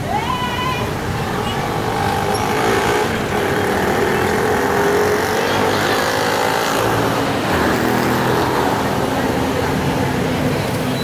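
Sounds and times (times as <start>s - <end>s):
coach engine: 0.0s - 11.0s
motorcycle engines: 0.0s - 11.0s.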